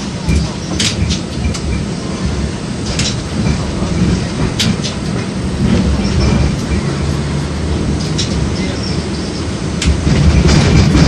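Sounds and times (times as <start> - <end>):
rail joint clicks and knocks: 0.0 - 11.0
tram wheels rumbling on rails: 0.0 - 11.0.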